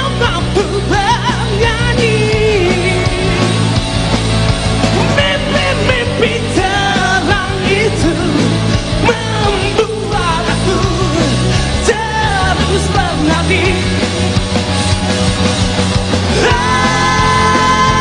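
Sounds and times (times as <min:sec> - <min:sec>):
low bass notes: 0:00.0 - 0:18.0
rock band playing live: 0:00.0 - 0:18.0.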